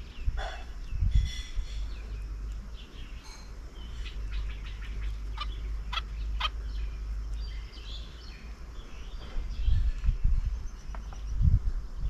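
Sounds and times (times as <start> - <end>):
sharp bird calls: 0.0 - 11.4
birds calling and chirping: 0.0 - 12.0.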